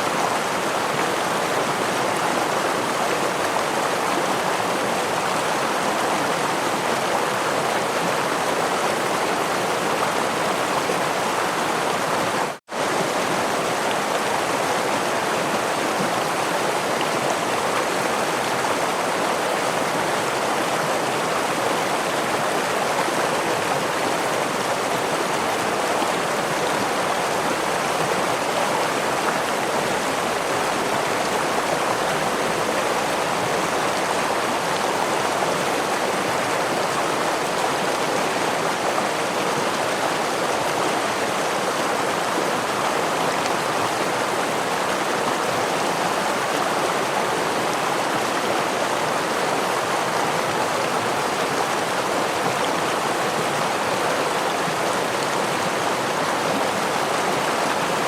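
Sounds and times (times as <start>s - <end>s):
stream and waterfall flowing: 0.0s - 58.0s.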